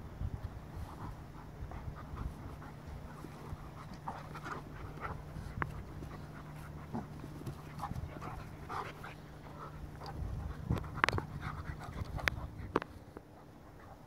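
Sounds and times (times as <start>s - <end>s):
dogs panting: 0.8s - 14.0s.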